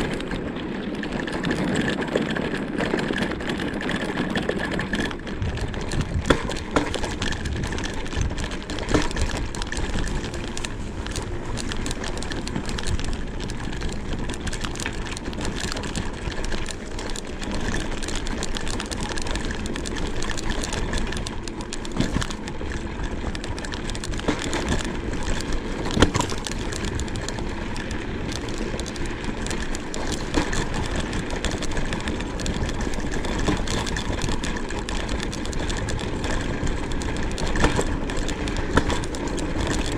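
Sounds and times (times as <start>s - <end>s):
scooter knocks and rattles: 0.0s - 39.9s
tyres rumbling on rough ground: 0.0s - 39.9s.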